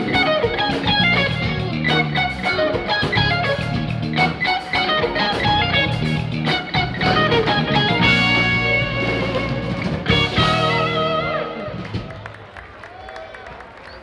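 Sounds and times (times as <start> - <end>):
bass line: 0.0 - 12.2
electric guitar melody: 0.0 - 12.4
steady drum beat: 0.0 - 12.4.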